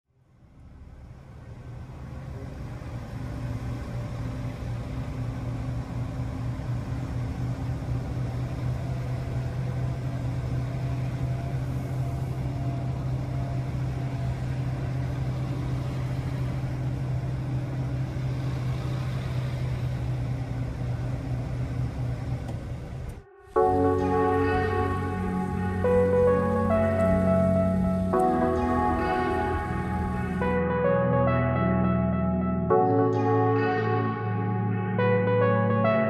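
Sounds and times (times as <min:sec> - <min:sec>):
diesel truck engine humming: 0:00.2 - 0:36.0.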